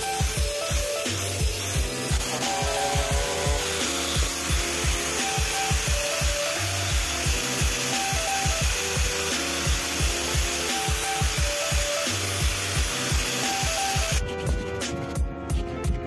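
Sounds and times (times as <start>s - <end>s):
background music with steady beat: 0.0s - 16.0s
angle grinder sanding wood: 1.2s - 14.2s.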